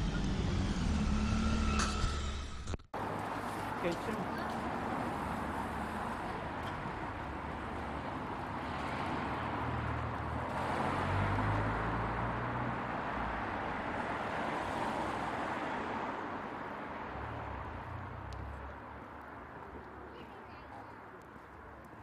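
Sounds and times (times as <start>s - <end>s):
passing cars: 0.0s - 22.0s.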